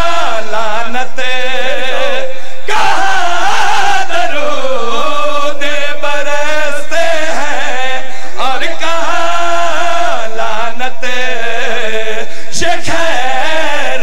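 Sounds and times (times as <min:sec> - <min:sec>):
person chanting into microphone: 0:00.0 - 0:14.0.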